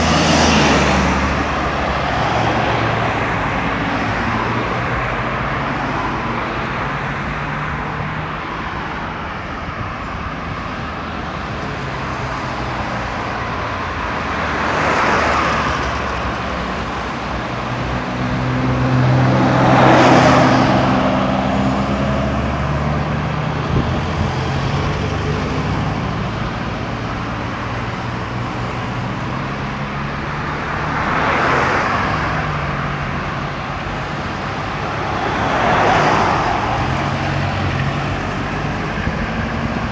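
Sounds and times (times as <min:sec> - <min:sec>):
highway traffic roar: 0:00.0 - 0:39.9
vehicles passing close: 0:00.0 - 0:39.9.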